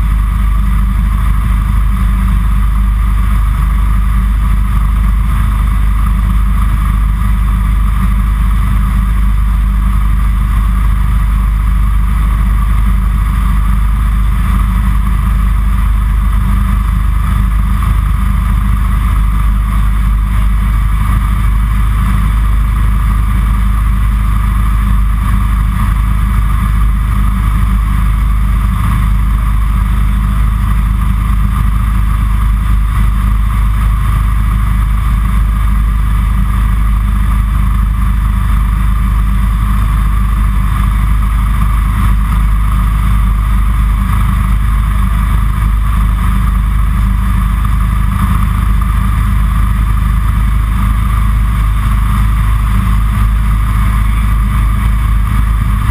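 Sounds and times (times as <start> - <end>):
light aircraft engine and propeller: 0.0 - 55.9.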